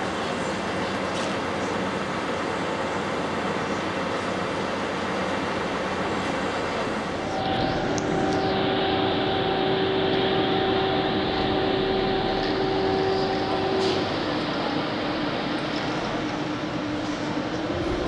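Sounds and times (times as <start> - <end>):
electric train running in: 0.0 - 18.0
low rail rumble: 0.0 - 18.0
train electric whine: 0.0 - 18.0.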